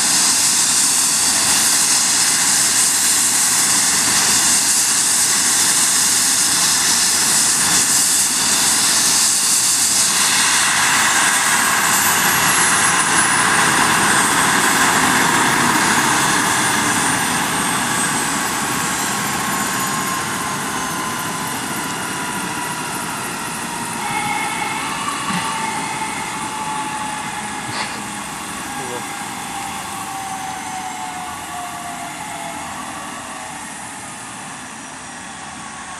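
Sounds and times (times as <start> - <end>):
helicopter rotor and turbine: 0.0 - 35.9
high turbine whine: 0.0 - 35.9.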